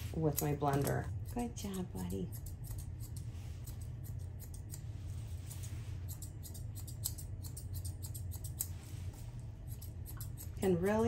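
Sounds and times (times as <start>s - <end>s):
shears snipping: 0.0s - 1.5s, 2.3s - 11.0s
steady low hum: 0.0s - 11.0s.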